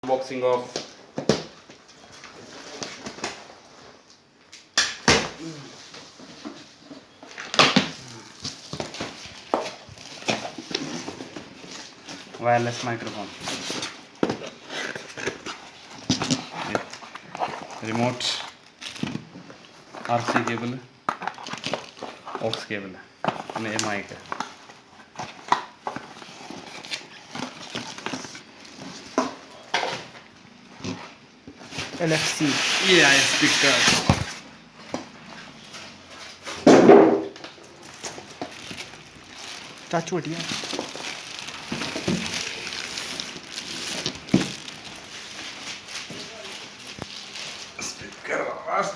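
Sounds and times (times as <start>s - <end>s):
cardboard packaging rustling: 5.5s - 48.9s.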